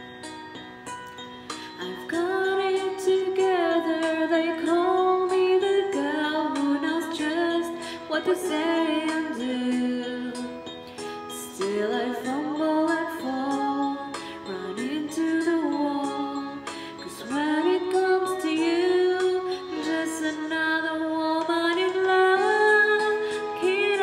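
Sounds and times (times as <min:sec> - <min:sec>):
woman singing a slow ballad: 0:01.6 - 0:24.0.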